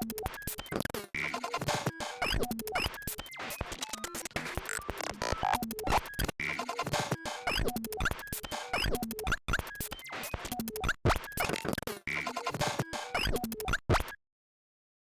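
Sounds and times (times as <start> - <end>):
electronic glitch synth groove: 0.0 - 14.2.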